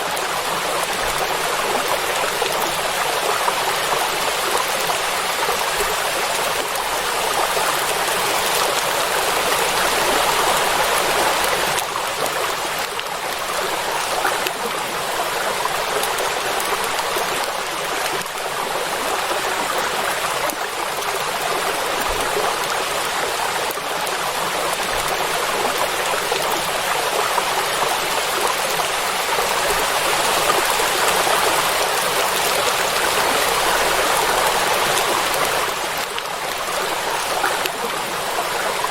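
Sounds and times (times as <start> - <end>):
rain falling on water: 0.0 - 38.9.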